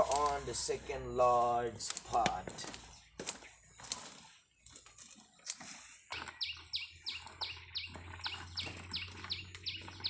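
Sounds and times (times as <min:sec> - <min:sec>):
bird calling with whistled notes: 0:01.8 - 0:10.0.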